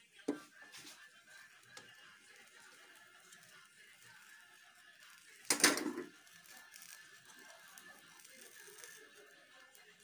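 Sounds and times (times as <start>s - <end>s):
crepe crackling in frying pan: 0.0s - 10.0s.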